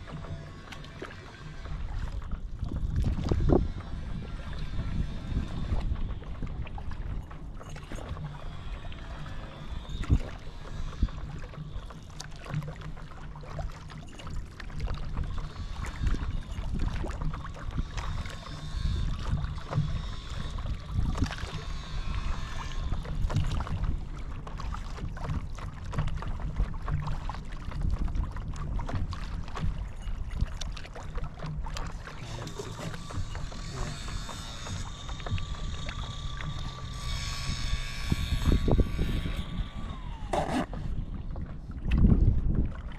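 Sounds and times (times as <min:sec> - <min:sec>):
paddle strokes: 0:00.0 - 0:42.9
water splashing against a board: 0:00.0 - 0:42.9
wind rumble on microphone: 0:00.0 - 0:42.9.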